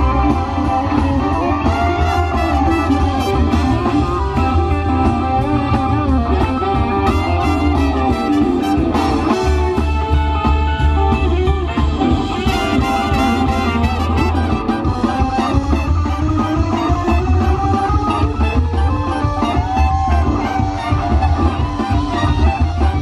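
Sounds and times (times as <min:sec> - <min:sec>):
electric guitar lead: 0:00.0 - 0:23.0
swing band playing: 0:00.0 - 0:23.0.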